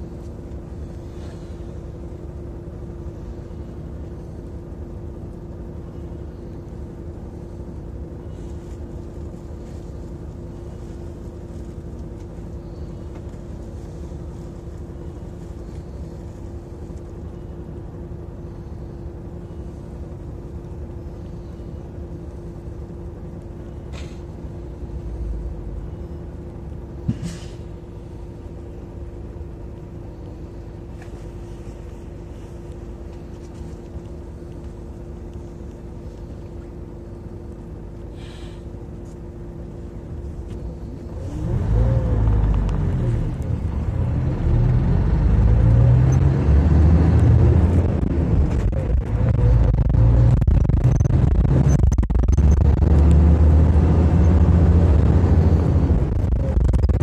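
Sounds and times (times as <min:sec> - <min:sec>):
bus engine idling and revving: 0:00.0 - 0:57.0.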